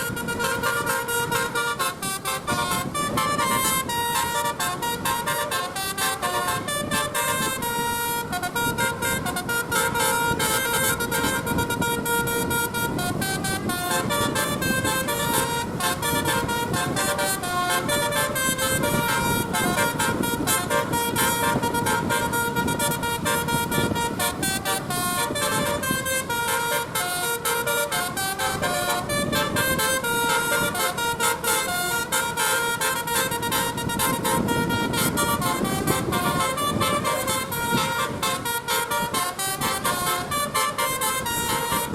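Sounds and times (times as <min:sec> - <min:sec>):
musical bus horn melody: 0:00.0 - 0:41.9.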